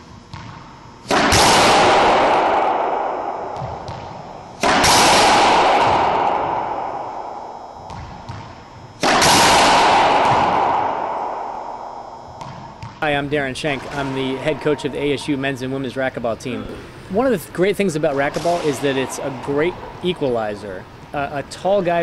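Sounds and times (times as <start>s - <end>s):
loud ringing impacts: 0.0s - 21.2s.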